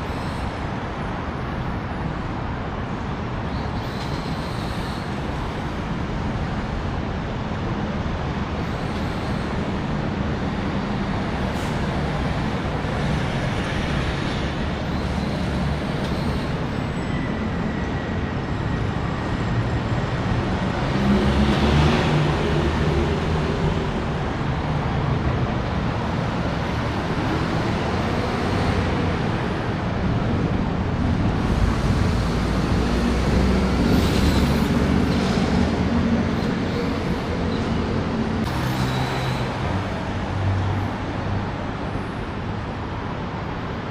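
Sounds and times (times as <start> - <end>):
expressway traffic rumble: 0.0 - 43.9.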